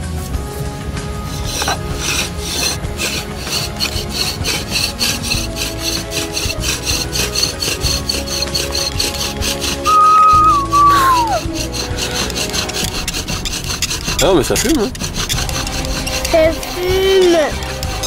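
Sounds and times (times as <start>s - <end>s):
wooden spindle rasping on wood: 0.3s - 18.0s.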